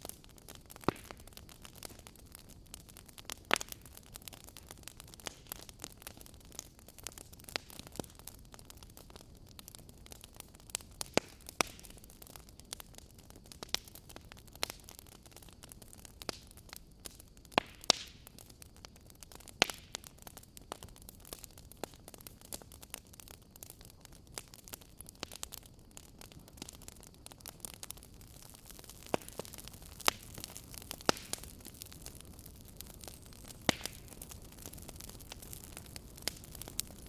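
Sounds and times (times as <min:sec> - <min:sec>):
low steady hiss: 0:00.0 - 0:37.0
wood fire crackling and popping: 0:00.0 - 0:37.0.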